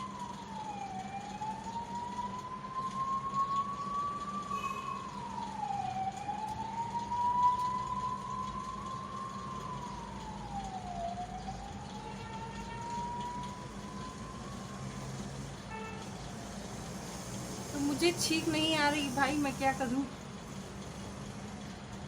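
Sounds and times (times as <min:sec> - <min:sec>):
siren wailing: 0:00.0 - 0:16.0, 0:17.7 - 0:20.1.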